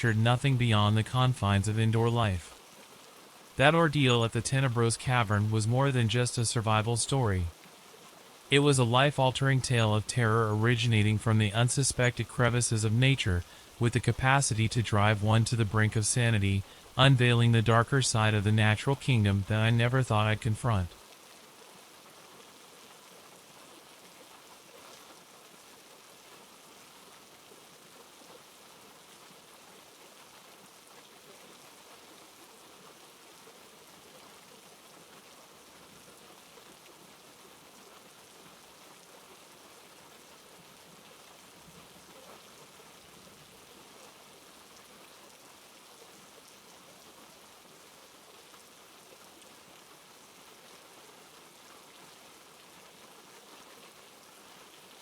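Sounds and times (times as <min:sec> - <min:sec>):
soft rain falling: 0:00.0 - 0:55.0.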